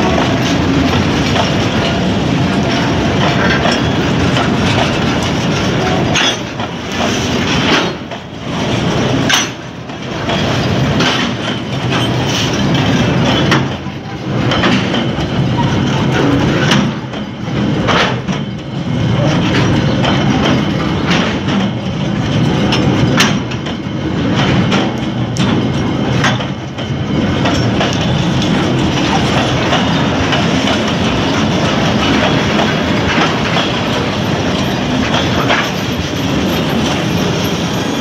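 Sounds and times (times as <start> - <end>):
freight train rumbling past: 0.0 - 38.0
wheels clacking over rail joints: 0.0 - 38.0.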